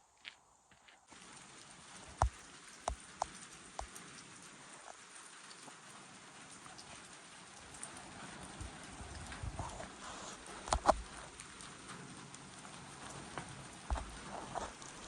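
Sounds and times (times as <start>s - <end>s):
rain falling: 1.1s - 15.0s.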